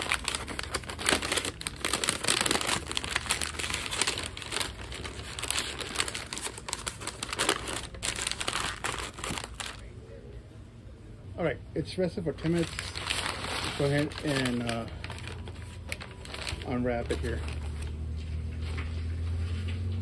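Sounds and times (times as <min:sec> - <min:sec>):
paper crinkling and rustling: 0:00.0 - 0:09.9, 0:12.4 - 0:20.0.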